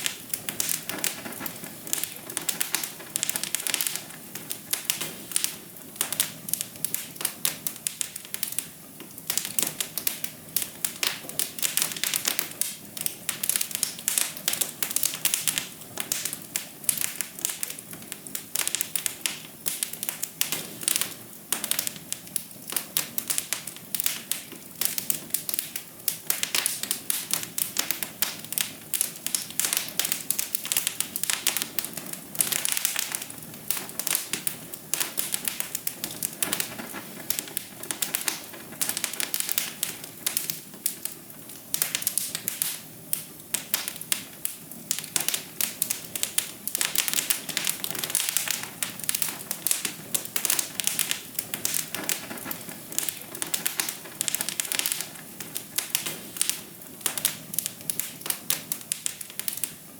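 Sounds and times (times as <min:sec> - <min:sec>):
sharp pops and snaps: 0:00.0 - 0:59.9
wood fire crackling: 0:00.0 - 0:59.9.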